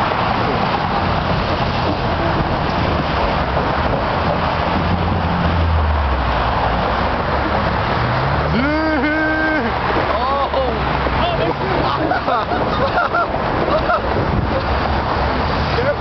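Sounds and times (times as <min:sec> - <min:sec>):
heavy vehicle engine drone: 0:00.0 - 0:16.0
road traffic noise: 0:00.0 - 0:16.0.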